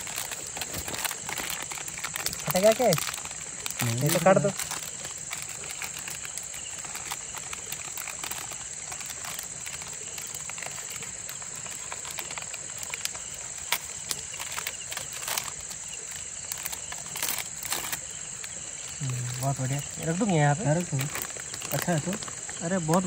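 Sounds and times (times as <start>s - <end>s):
handling clicks and rustles: 0.0s - 23.0s
night insects chorus: 0.0s - 23.0s.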